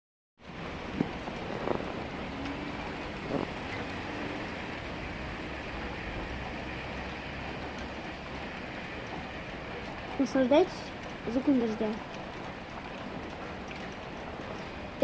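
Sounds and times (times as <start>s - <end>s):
steady rain falling: 0.4s - 15.0s.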